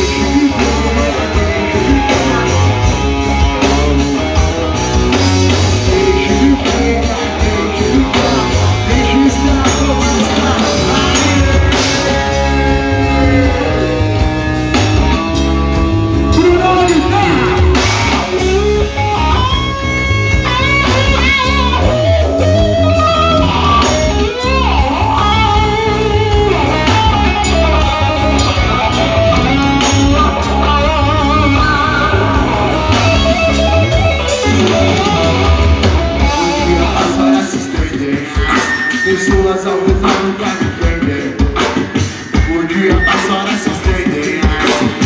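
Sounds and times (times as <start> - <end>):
electric guitar lead with bent notes: 0.0 - 45.0
live rock band: 0.0 - 45.0.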